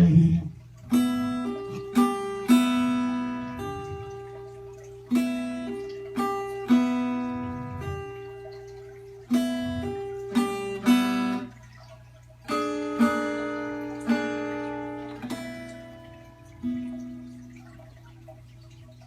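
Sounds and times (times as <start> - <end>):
acoustic guitar chords ringing: 0.0 - 18.6.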